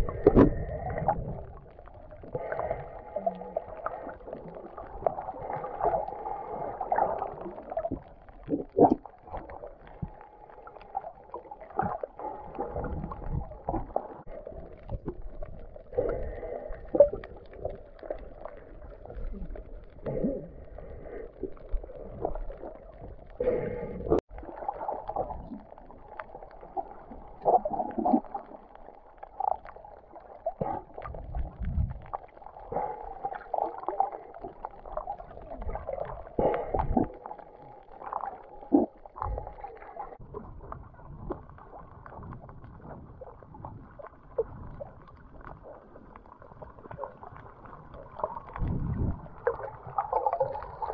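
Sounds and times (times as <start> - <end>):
muffled water sloshing and gurgling: 0.0 - 50.9.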